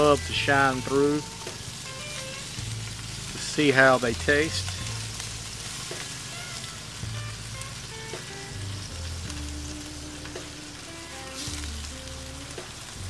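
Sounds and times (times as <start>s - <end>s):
quiet background music: 0.0s - 13.0s
ribs sizzling on a grill: 0.0s - 13.0s.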